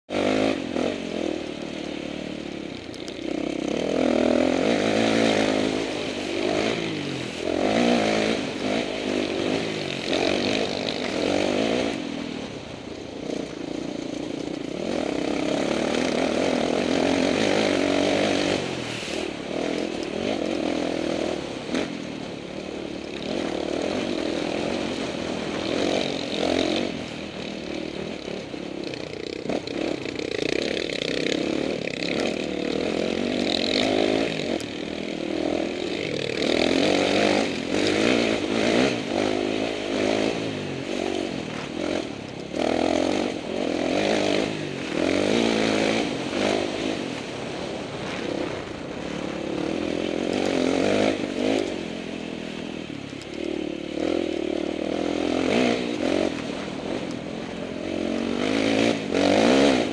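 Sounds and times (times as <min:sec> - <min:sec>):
dirt bike engine revving: 0:00.1 - 0:59.9.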